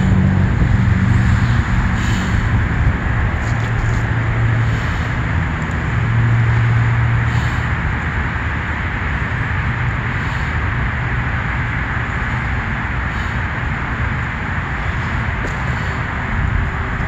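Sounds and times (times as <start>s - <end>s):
engine hum: 0.0s - 17.0s
low rushing vehicle noise: 0.0s - 17.0s.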